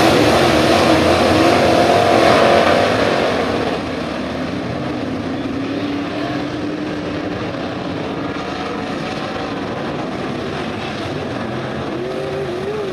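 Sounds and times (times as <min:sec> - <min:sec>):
race car engines droning: 0:00.0 - 0:12.9.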